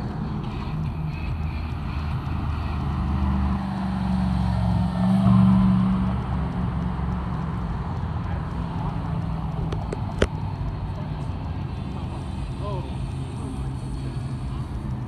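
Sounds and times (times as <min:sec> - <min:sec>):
pickup truck engine rumble: 0:00.0 - 0:15.0.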